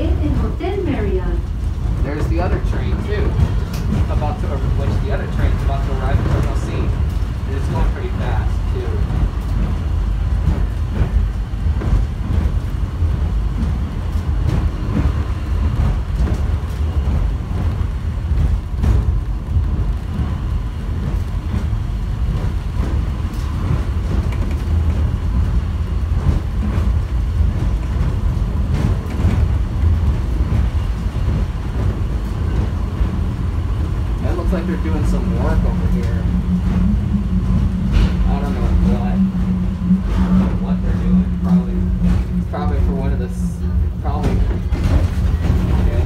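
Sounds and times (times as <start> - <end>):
train car low rumble: 0.0 - 46.0.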